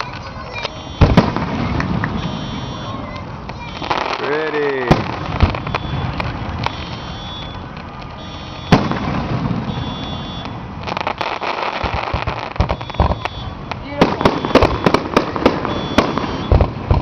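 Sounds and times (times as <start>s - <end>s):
crackling pops: 0.0s - 17.0s
fireworks bangs: 0.0s - 17.0s.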